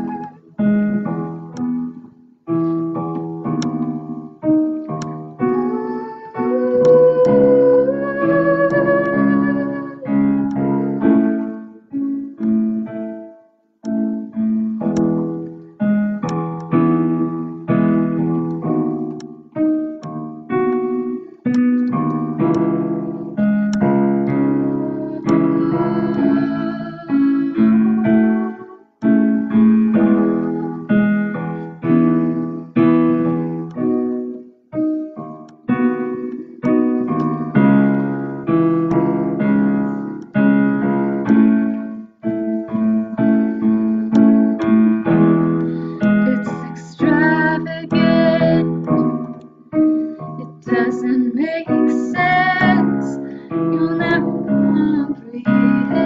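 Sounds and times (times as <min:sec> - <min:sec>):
piano chords: 0:00.0 - 0:56.0.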